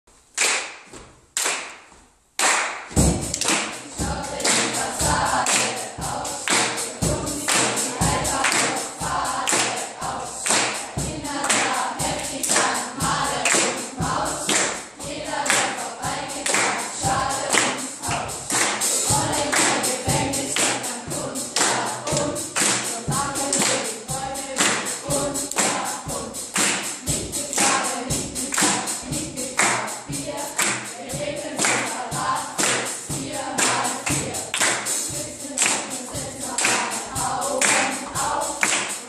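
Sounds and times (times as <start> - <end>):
drum kit beat: 2.8 - 39.0
children rapping in unison: 3.0 - 39.0.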